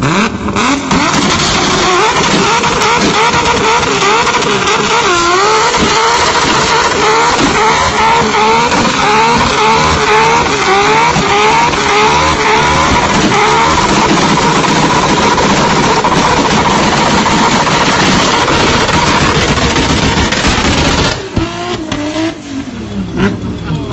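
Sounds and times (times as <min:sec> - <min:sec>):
high-revving car engine: 0:00.0 - 0:23.9.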